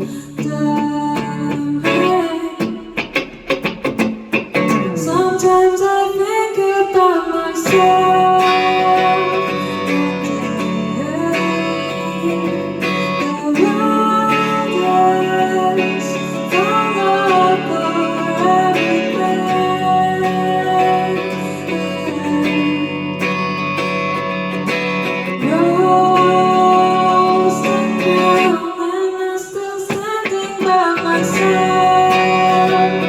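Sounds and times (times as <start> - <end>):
acoustic guitar strumming: 0.0 - 33.0
person singing: 0.0 - 33.0.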